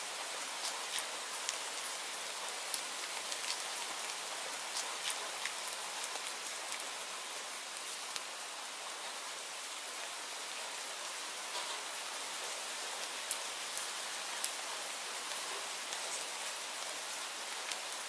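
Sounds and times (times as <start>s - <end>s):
steady rainfall: 0.0s - 18.0s.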